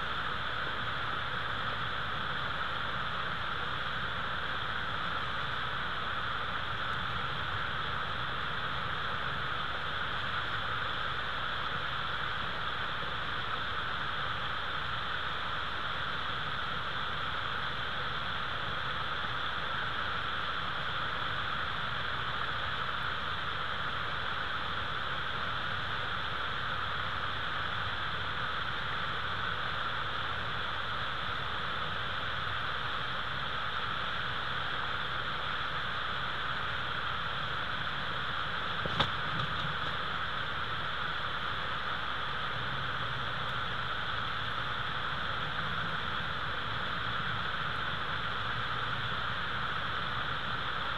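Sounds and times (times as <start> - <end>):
steady hiss: 0.0 - 50.9.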